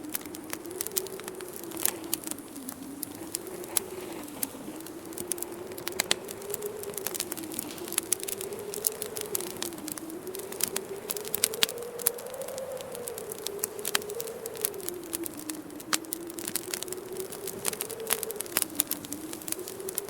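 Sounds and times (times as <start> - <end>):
wind howling: 0.0 - 20.0
wood fire crackling and popping: 0.0 - 20.0.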